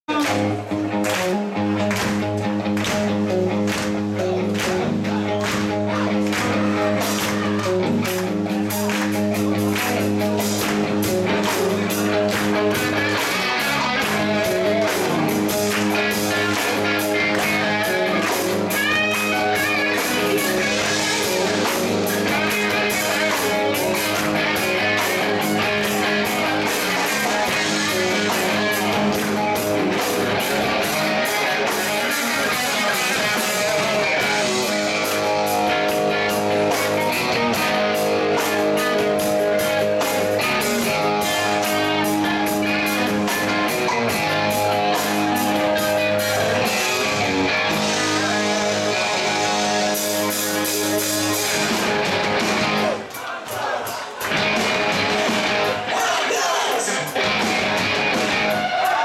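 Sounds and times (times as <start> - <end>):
lead guitar with bending notes: 0.1 - 53.1, 54.2 - 56.0, 56.9 - 58.7
rock band playing live: 0.1 - 59.0.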